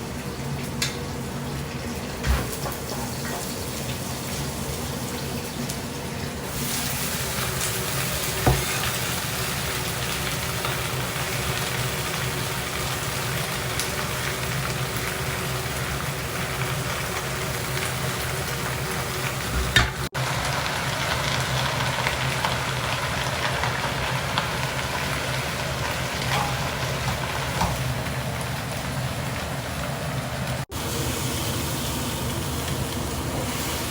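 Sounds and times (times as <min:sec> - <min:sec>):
food sizzling in a pan: 0:06.4 - 0:33.9.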